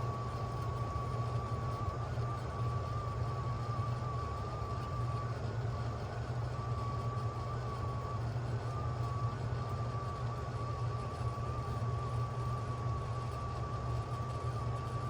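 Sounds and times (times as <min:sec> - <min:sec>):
heat pump humming: 0:00.0 - 0:15.0
thin wavering whine: 0:00.0 - 0:15.0.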